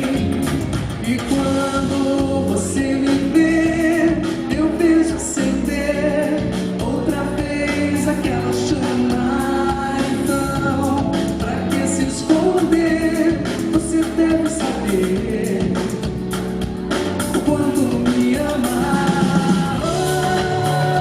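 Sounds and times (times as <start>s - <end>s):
live band playing pop song: 0.0s - 21.0s
person singing: 0.0s - 21.0s.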